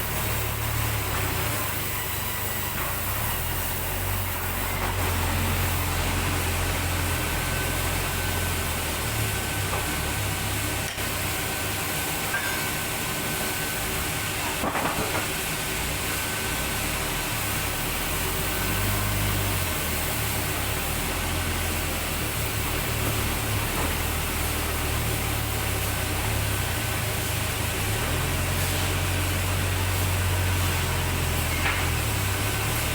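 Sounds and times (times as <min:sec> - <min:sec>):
sawmill machinery drone and hiss: 0:00.0 - 0:32.9.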